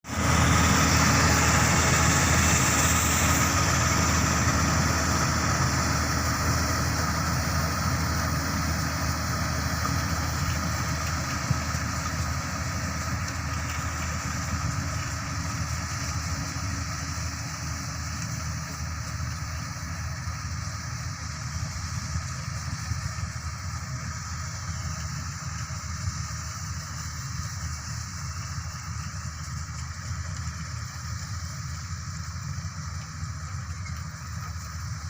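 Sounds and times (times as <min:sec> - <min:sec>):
combine harvester engine drone: 0:00.0 - 0:35.0.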